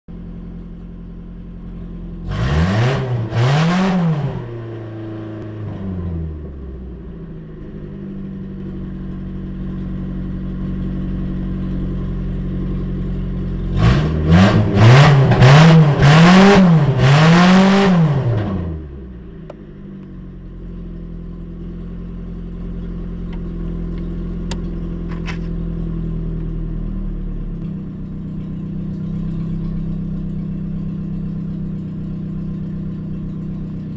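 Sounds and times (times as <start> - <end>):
car engine revving: 1.2 - 33.9.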